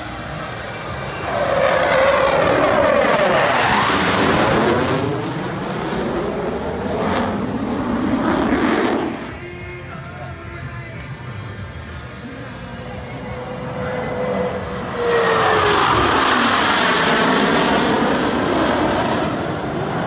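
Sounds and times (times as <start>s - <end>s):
jet engine roar: 0.0s - 9.8s, 10.5s - 20.0s.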